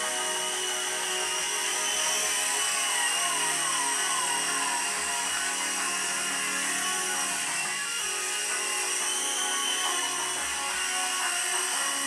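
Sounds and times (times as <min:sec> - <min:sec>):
toy helicopter motor whirring: 0:00.0 - 0:12.0.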